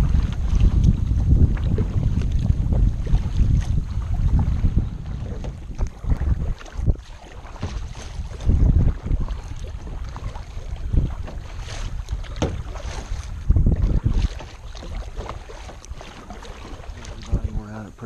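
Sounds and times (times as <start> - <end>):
paddle strokes splashing: 0.0 - 18.0
wind on microphone: 0.0 - 18.0.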